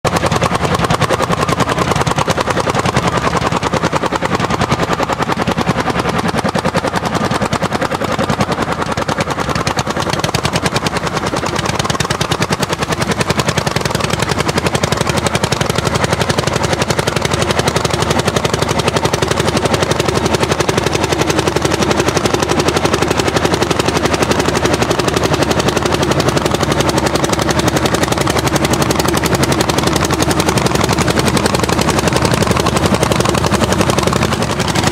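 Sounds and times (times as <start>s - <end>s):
tractor engine popping: 0.0s - 34.9s.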